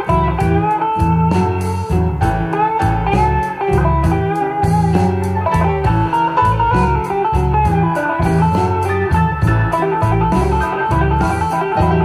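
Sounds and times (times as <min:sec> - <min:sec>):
bass line: 0:00.0 - 0:12.0
plucked guitar music: 0:00.0 - 0:12.0.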